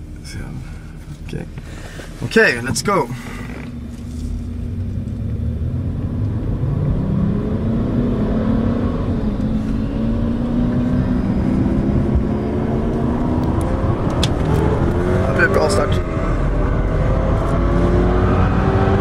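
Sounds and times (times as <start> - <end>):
car engines accelerating hard: 2.5 - 19.0.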